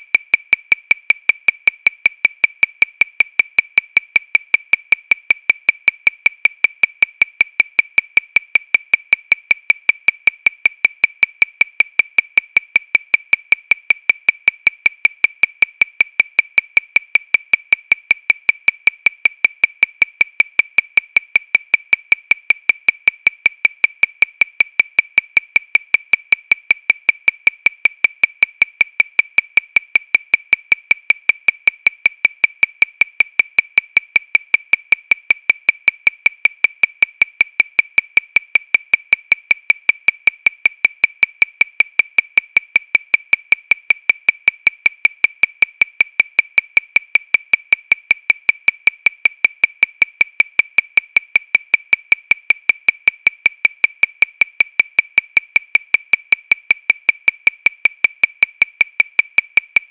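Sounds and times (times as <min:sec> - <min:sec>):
metronome clicking: 0:00.0 - 0:59.9.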